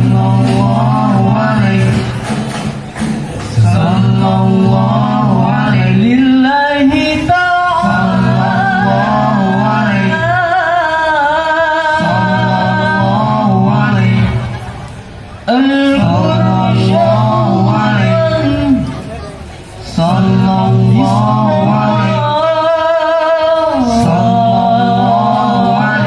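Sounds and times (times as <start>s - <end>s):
man singing devotional solo: 0.0s - 2.3s, 3.6s - 14.5s, 15.4s - 19.1s, 19.8s - 26.0s
steady lower backing: 0.0s - 26.0s.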